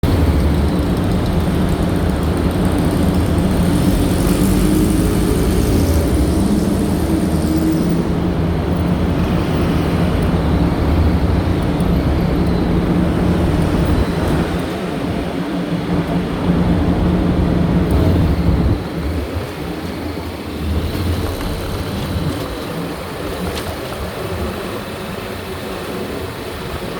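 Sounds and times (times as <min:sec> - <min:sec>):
vehicle engine rumble: 0:00.0 - 0:26.9.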